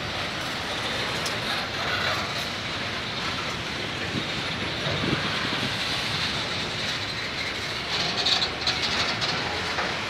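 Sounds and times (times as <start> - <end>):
steel wheels rumbling on rail: 0.0 - 10.0.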